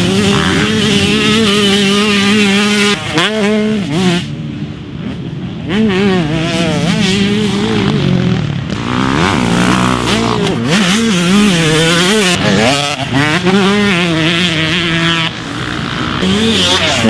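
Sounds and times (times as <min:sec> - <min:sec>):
motocross bike engine revving: 0:00.0 - 0:04.4, 0:05.7 - 0:17.0.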